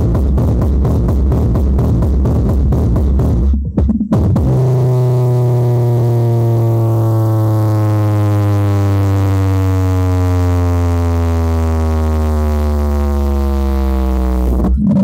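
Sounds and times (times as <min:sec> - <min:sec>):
low bass tone gliding down: 0:00.0 - 0:15.0.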